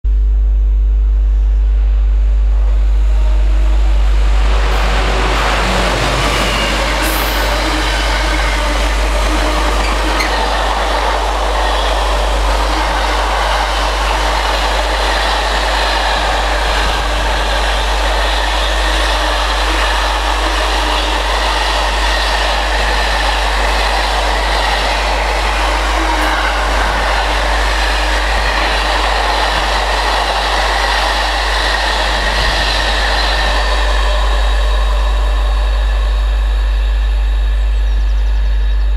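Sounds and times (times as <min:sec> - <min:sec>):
freight train wagons rolling past: 0:03.5 - 0:37.2.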